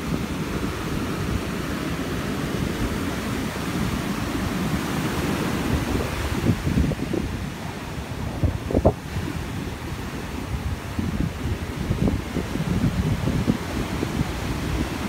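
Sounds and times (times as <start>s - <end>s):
storm surf washing up beach: 0.0s - 15.0s
wind buffeting microphone: 0.0s - 15.0s.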